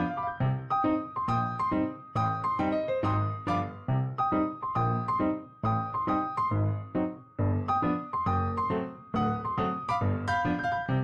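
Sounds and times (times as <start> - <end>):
bouncy piano notes and chords: 0.0 - 11.0.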